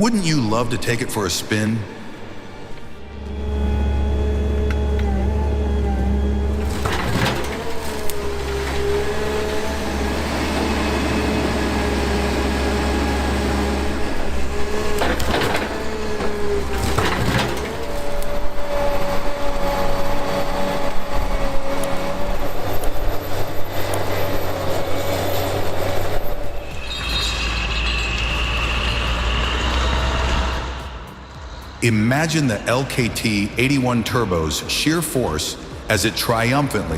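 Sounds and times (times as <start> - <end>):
heavy machine engine running: 1.9 - 34.4.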